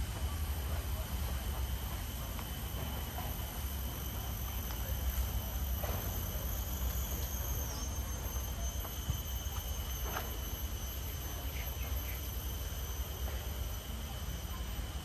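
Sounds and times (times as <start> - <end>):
high-pitched two-tone whine: 0.0 - 15.0.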